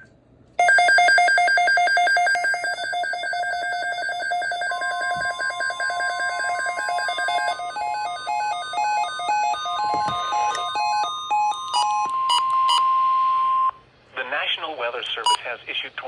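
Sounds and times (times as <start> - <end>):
warbling electronic alarm tone: 0.6 - 13.7.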